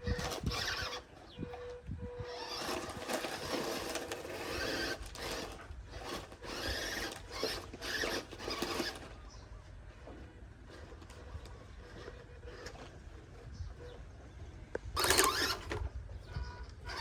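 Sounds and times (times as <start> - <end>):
rc truck motor whining: 0.0 - 9.4, 10.1 - 17.0
tyres scrabbling on dirt: 0.0 - 17.0.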